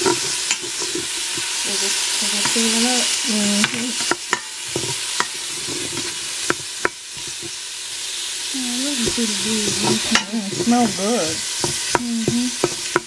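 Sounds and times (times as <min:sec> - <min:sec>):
onions sizzling in butter: 0:00.0 - 0:13.0.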